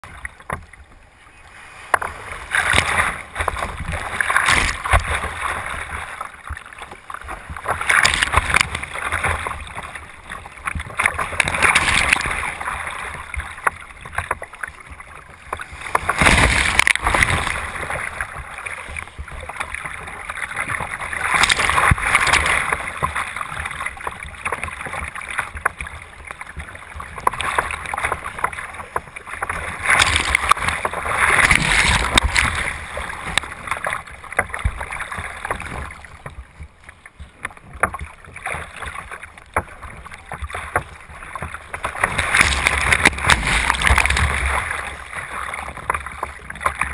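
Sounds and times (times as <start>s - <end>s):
sea water rushing and splashing: 0.0s - 46.9s.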